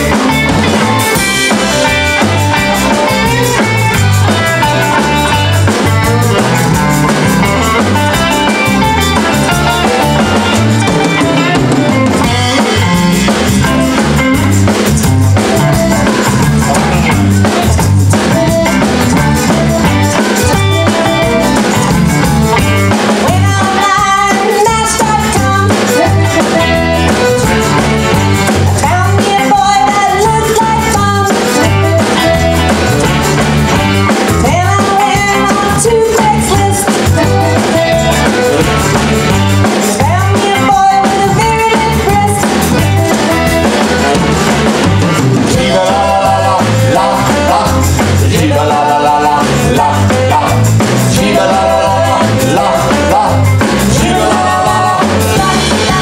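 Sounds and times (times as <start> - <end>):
live band playing upbeat song: 0.0 - 56.0
voices singing: 0.0 - 56.0.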